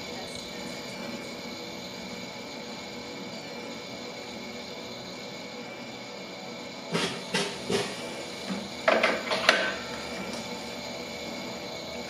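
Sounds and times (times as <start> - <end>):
roaster humming: 0.0 - 12.0.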